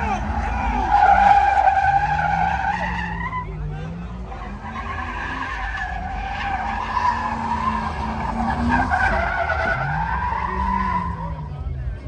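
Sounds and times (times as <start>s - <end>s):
tires screeching: 0.0s - 12.0s
truck engine at high revs: 0.0s - 12.0s.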